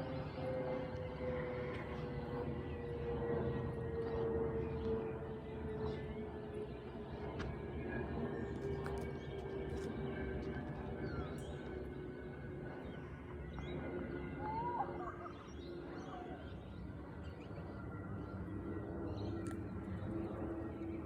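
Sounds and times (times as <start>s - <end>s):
distant jet engines rumbling: 0.0s - 21.0s.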